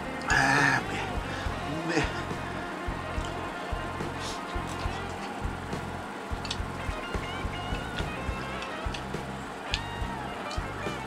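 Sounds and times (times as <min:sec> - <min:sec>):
background music with low pulse: 0:00.0 - 0:11.0.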